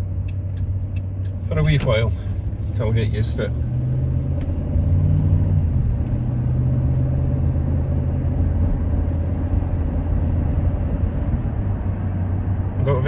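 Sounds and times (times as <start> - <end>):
engine drone while driving: 0.0 - 13.0
road noise: 0.0 - 13.0.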